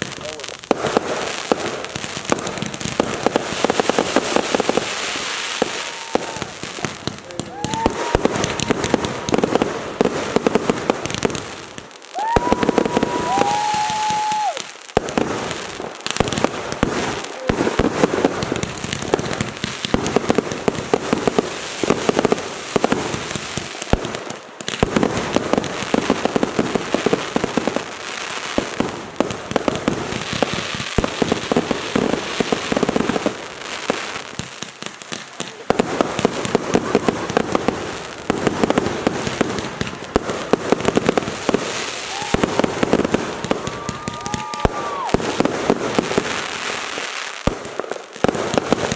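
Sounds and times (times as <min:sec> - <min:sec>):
fireworks popping and crackling: 0:00.0 - 0:48.9
loud firework bangs: 0:00.0 - 0:48.9.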